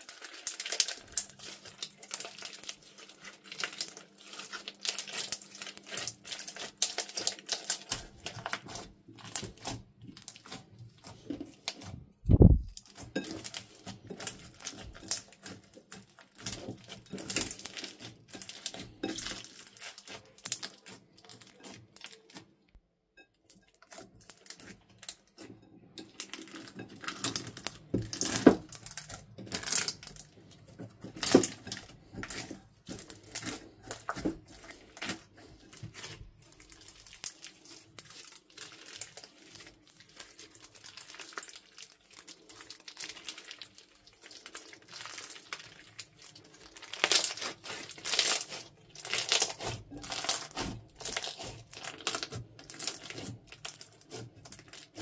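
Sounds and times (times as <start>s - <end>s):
slime crackling and squelching: 0.0s - 22.7s, 23.3s - 55.0s.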